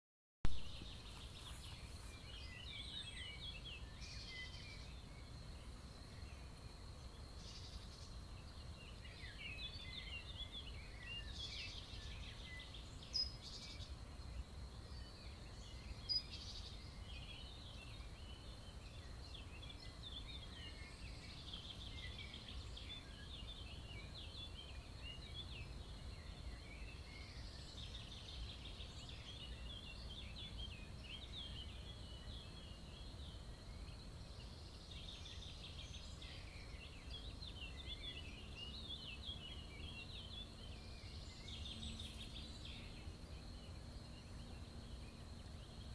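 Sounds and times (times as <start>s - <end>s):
songbirds chirping: 0.5s - 45.9s.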